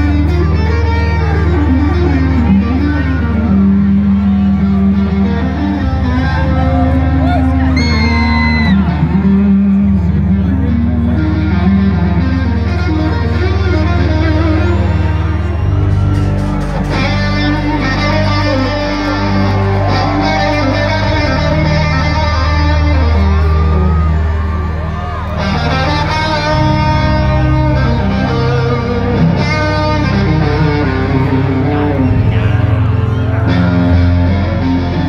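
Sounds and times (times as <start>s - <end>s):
electric guitar: 0.0s - 35.0s
heavy bass line: 0.0s - 35.0s
keyboards: 0.0s - 35.0s.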